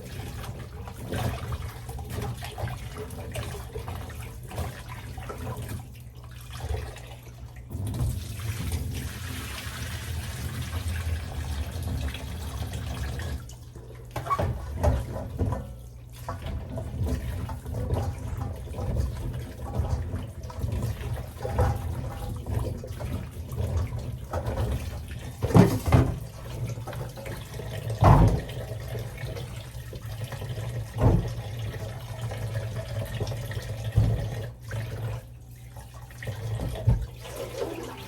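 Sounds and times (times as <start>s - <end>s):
tap water running into sink: 0.0s - 38.0s.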